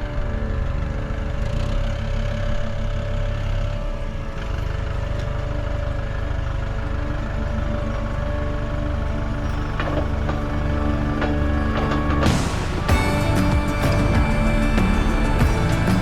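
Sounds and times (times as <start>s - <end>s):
engine low rumble: 0.0s - 16.0s
steady engine whine: 0.0s - 16.0s.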